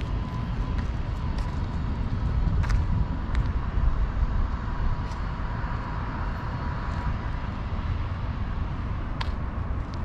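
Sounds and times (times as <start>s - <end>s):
distant traffic rumble: 0.0s - 10.0s
faint steady whine: 0.0s - 10.0s.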